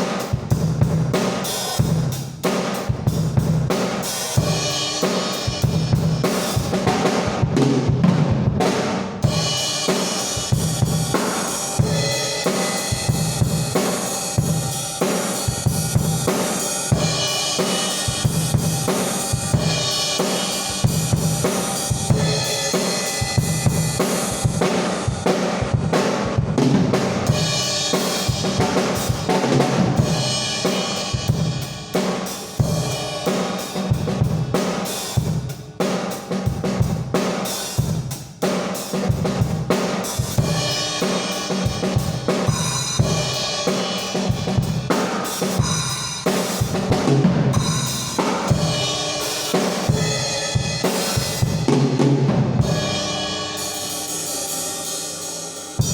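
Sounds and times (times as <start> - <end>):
cymbal and hi-hat wash: 0.0 - 7.3, 9.2 - 26.4, 27.2 - 51.8, 52.6 - 55.9
drum kit groove: 0.0 - 55.9.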